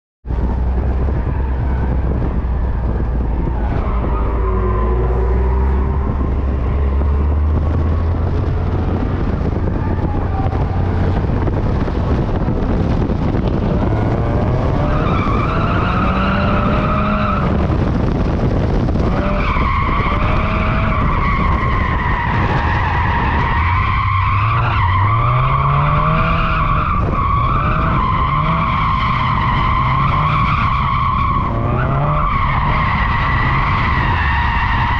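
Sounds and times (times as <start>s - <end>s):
car engine revving: 0.4s - 34.9s.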